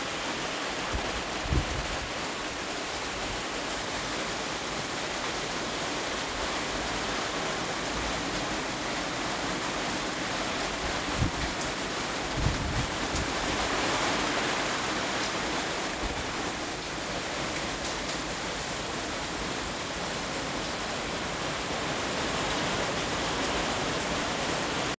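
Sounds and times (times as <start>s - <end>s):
gusty wind through trees: 0.0s - 25.0s
heavy rain pouring: 0.0s - 25.0s.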